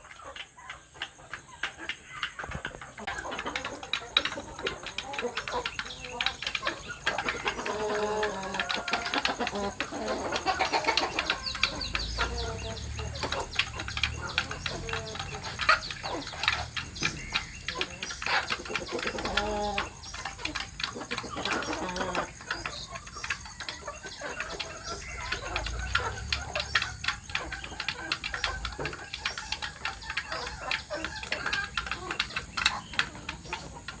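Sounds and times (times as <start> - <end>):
chickens clucking and cheeping: 0.0 - 34.0
quick irregular ticks and taps: 0.0 - 34.0.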